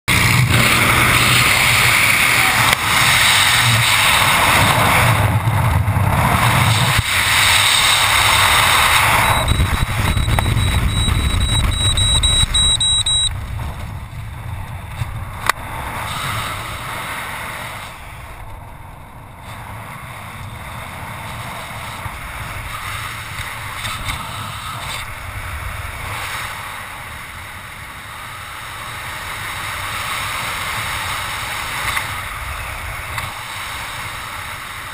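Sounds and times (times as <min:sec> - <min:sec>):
rushing wind on microphone: 0:00.1 - 0:34.9.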